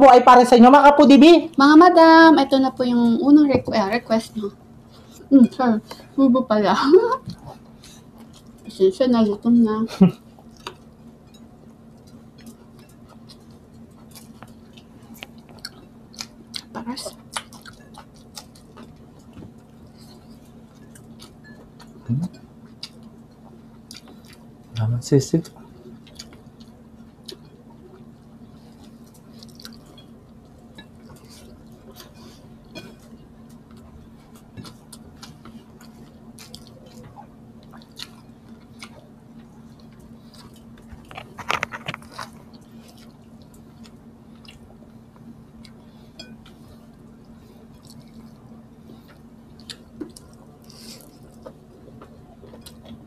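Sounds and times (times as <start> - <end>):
steady low hum: 0.0 - 53.0
close chewing with wet clicks: 7.3 - 8.7, 10.4 - 53.0.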